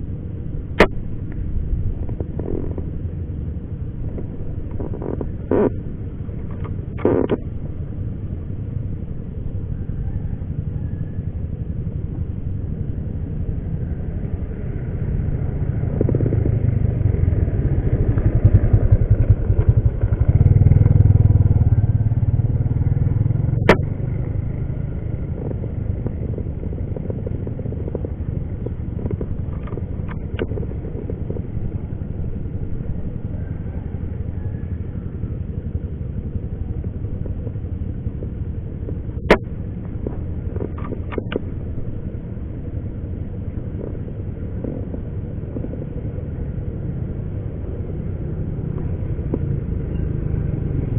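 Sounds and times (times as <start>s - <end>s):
low rumble: 0.0s - 50.9s.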